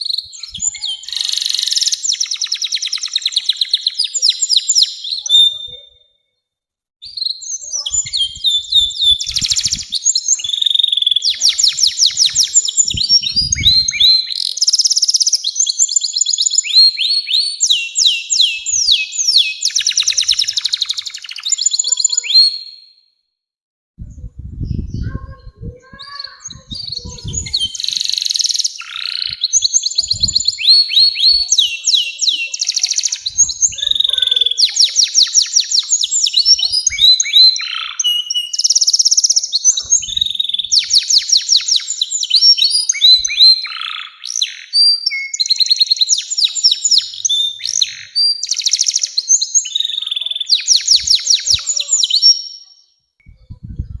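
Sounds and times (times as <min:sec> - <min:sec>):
canary singing trills: 0:00.0 - 0:06.1, 0:07.0 - 0:23.0, 0:24.3 - 0:54.0.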